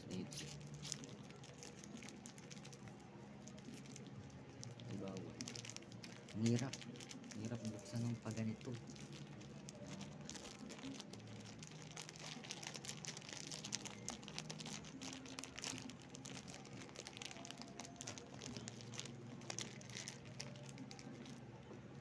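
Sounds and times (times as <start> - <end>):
snack wrapper crinkling: 0.1 - 21.4.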